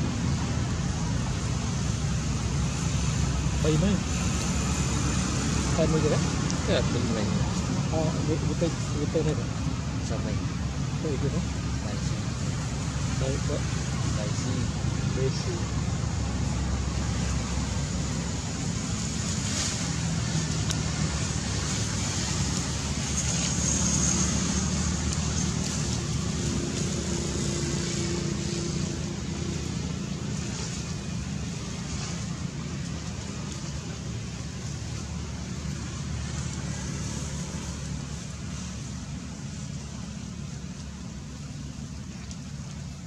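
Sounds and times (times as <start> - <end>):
low background rumble: 0.0 - 43.0.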